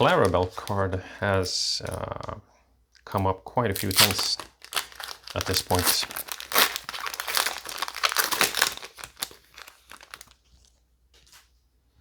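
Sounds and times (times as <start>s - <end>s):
wrapper crinkling: 0.0s - 2.0s, 3.7s - 11.5s.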